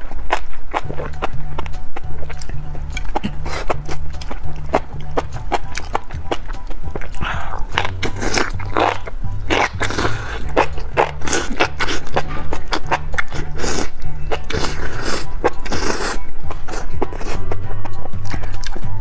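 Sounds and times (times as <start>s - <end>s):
background music with bass line: 0.0s - 19.0s
slurping and chewing: 0.0s - 19.0s.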